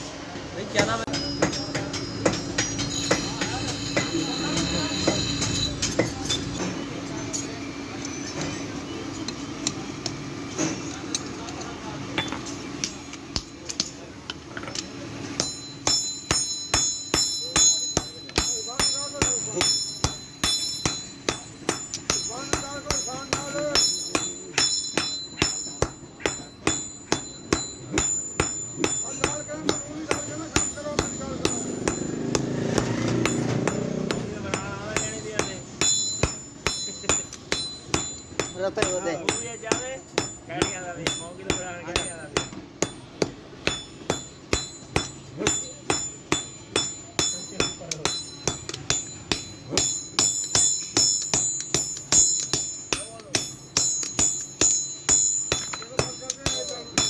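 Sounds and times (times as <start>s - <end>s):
hammer striking steel on anvil: 0.0s - 57.0s.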